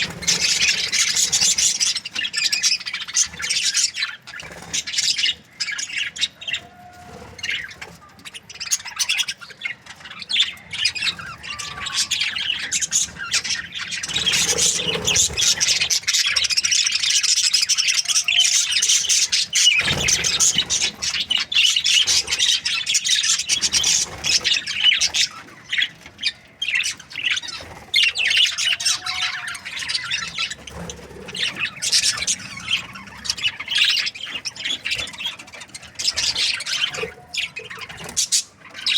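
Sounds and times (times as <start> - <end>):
budgerigar chirping: 0.0 - 38.9.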